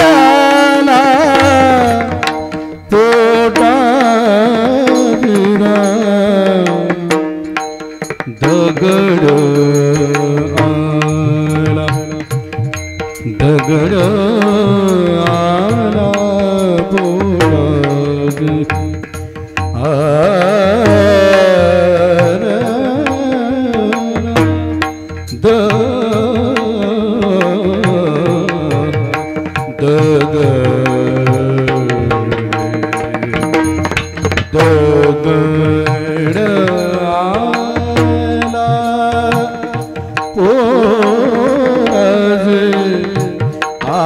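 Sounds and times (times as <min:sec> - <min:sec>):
instrumental accompaniment: 0:00.0 - 0:44.0
person singing devotional song: 0:00.0 - 0:44.0
tabla: 0:00.0 - 0:44.0.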